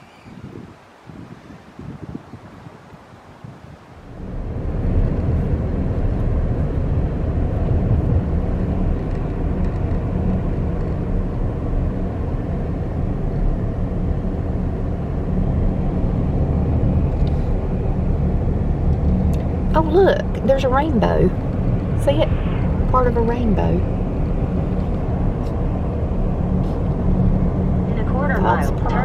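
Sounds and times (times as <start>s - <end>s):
car driving road rumble: 2.0s - 29.0s.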